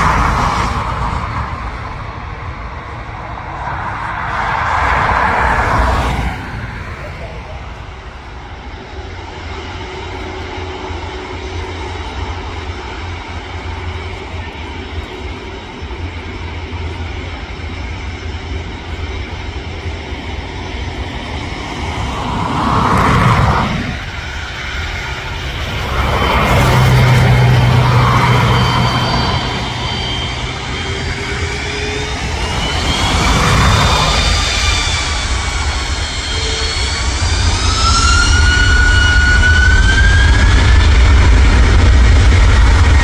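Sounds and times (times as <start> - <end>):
high turbine whine: 0.0 - 43.0
jet engines rumbling: 0.0 - 43.0.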